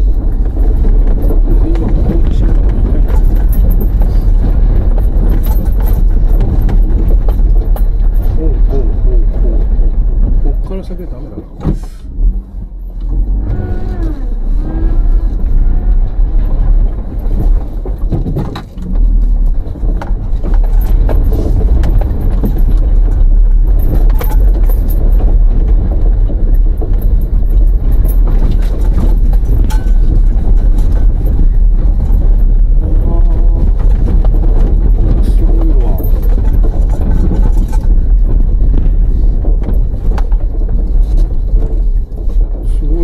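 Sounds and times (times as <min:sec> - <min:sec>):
car rattling over bumps: 0:00.0 - 0:43.0
car road rumble: 0:00.0 - 0:43.0.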